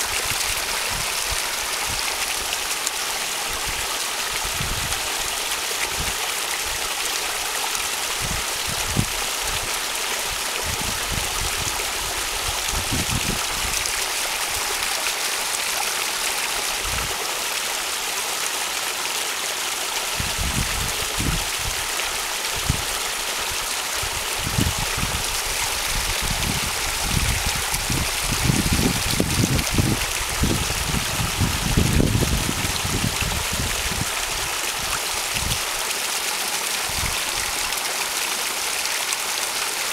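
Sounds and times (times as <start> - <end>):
rush of flowing water: 0.0 - 39.9.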